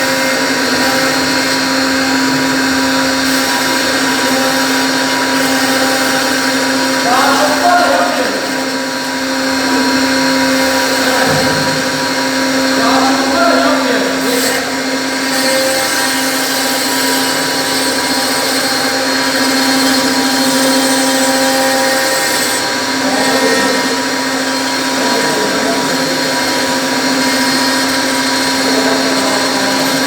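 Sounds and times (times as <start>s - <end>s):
router spindle whine: 0.0s - 30.0s
rushing noise of machining wood: 0.0s - 30.0s.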